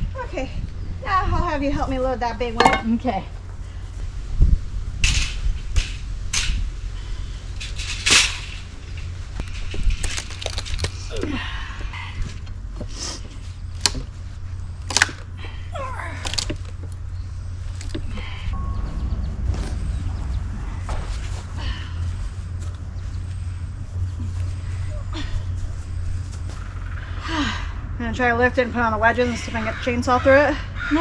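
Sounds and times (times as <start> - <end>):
low steady rumble: 0.0 - 30.9.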